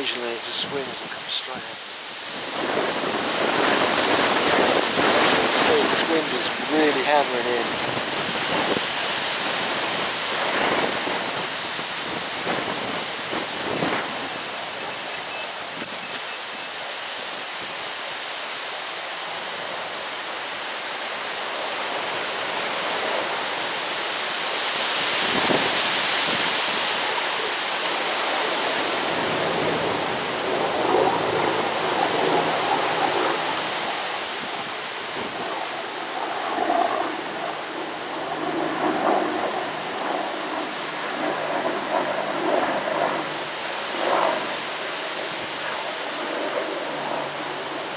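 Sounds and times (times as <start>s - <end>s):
gusty wind on microphone: 0.0s - 18.0s, 21.2s - 47.9s.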